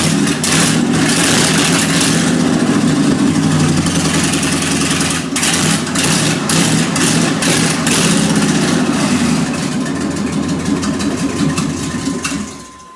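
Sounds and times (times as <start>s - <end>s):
truck engine running loud: 0.0s - 12.8s.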